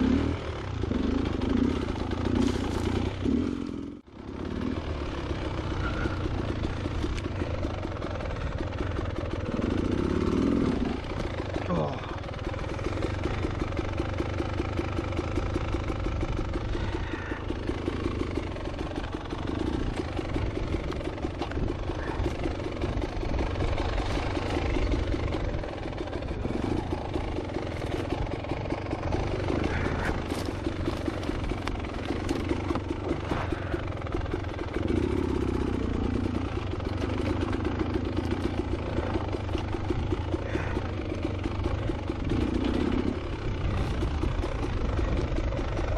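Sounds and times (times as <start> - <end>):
dirt bike two-stroke engine: 0.0 - 45.9.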